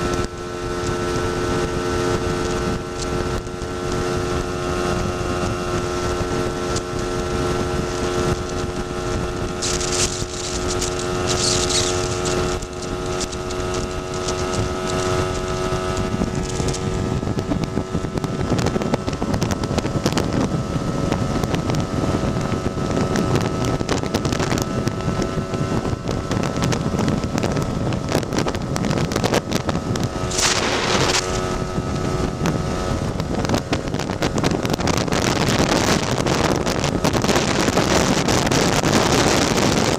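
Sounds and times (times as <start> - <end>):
two-stroke scooter engine running: 0.0 - 39.9
wind buffeting microphone: 0.0 - 39.9.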